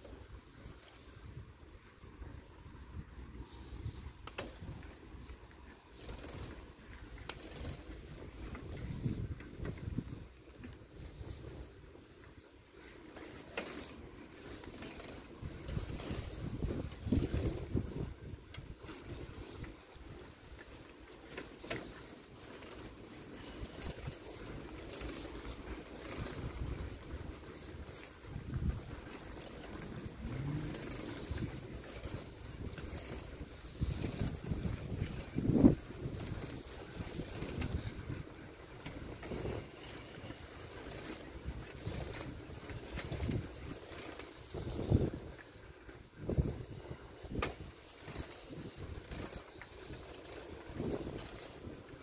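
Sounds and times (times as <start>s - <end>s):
wind rumbling on microphone: 0.0s - 52.0s.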